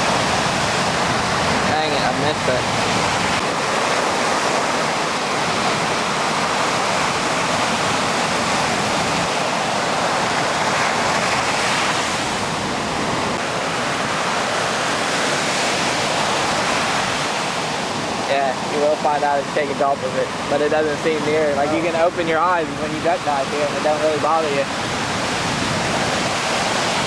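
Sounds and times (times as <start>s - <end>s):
ocean surf roaring: 0.0s - 27.0s.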